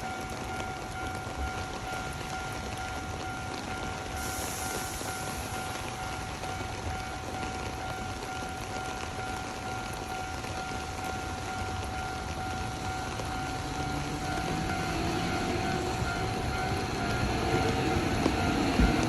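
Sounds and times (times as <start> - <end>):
electric train rumble: 0.0 - 19.0
level crossing warning bell: 0.0 - 19.0
rain hiss: 0.0 - 19.0.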